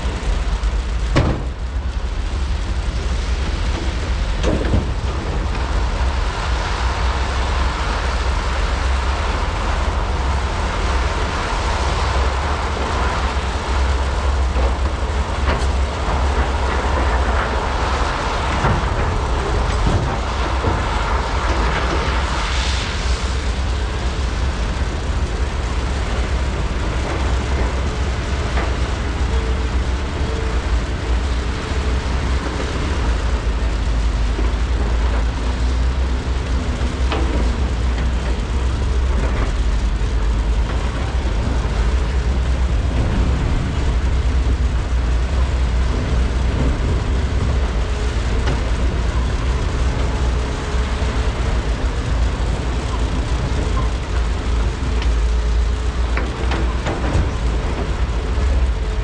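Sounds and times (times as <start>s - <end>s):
excavator diesel engines droning: 0.0s - 59.0s.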